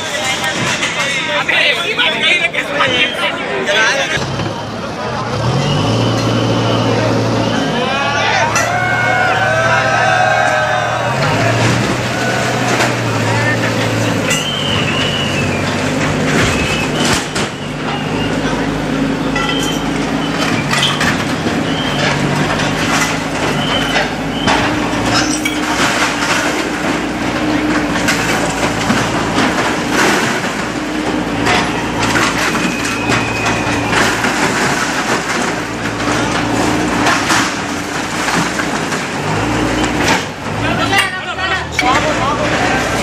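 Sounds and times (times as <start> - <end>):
diesel engine under load: 0.0 - 43.0
masonry crashing and cracking: 8.3 - 43.0.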